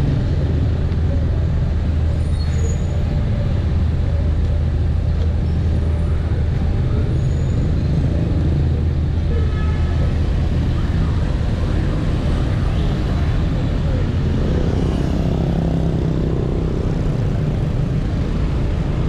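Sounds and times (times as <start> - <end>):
motorbike engines humming: 0.0 - 19.0
vehicles rumbling past: 0.0 - 19.0.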